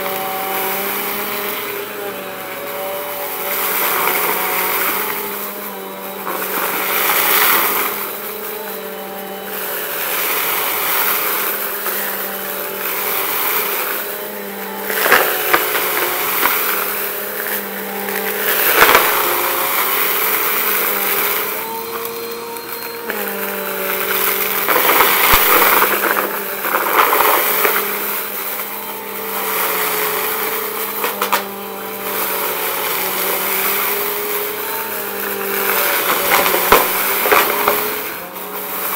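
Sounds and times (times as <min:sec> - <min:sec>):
vacuum cleaner motor hum: 0:00.0 - 0:38.9
debris crunching and rattling: 0:01.1 - 0:31.6, 0:32.2 - 0:38.9.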